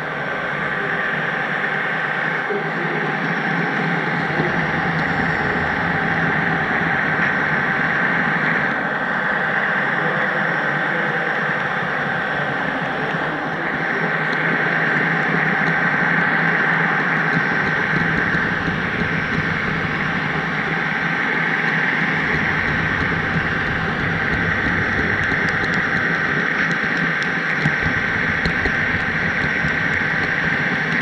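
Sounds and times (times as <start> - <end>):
model train rolling on track: 0.0 - 31.0
thin high whine: 0.0 - 31.0.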